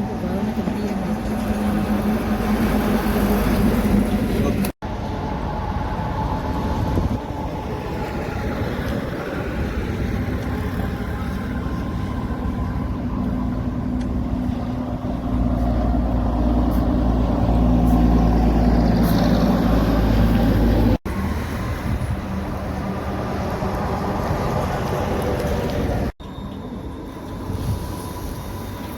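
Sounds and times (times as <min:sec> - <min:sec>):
road noise: 0:00.0 - 0:28.9.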